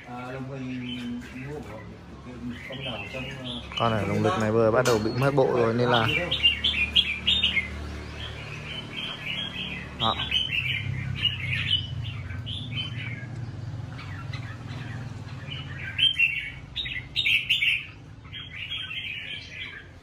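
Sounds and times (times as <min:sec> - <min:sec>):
birds chirping and singing: 0:00.0 - 0:20.0.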